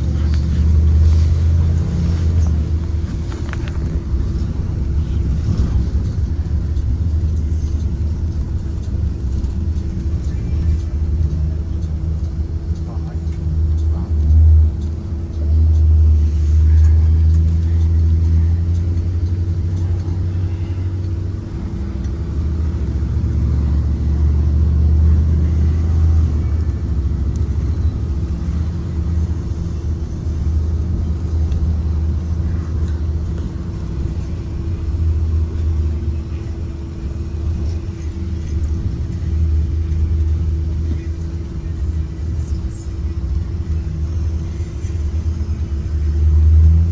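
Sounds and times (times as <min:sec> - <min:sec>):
bus engine rumble: 0:00.0 - 0:46.9.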